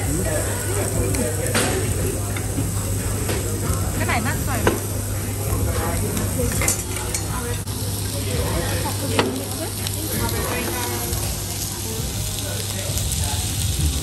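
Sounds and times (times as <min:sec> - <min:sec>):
meat and vegetables sizzling on grill: 0:00.0 - 0:14.0.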